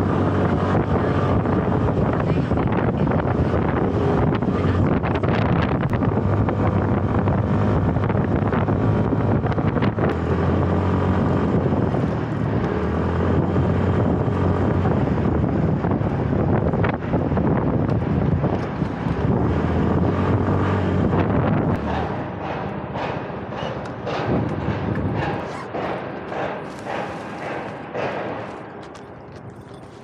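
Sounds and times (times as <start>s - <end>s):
passing engine: 0.0s - 30.0s
road traffic: 0.0s - 30.0s
wind on microphone: 0.0s - 30.0s.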